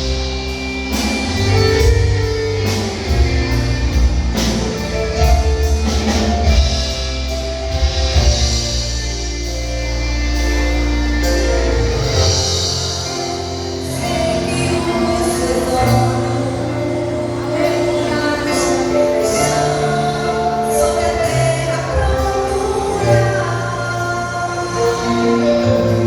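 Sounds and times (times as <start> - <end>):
bass notes: 0.0 - 26.0.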